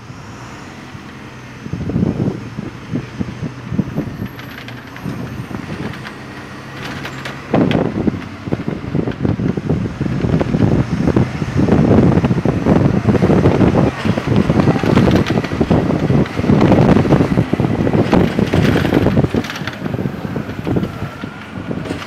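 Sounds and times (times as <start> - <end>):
bus engine running: 0.0 - 22.0
road rumble: 0.0 - 22.0
wind: 0.0 - 22.0.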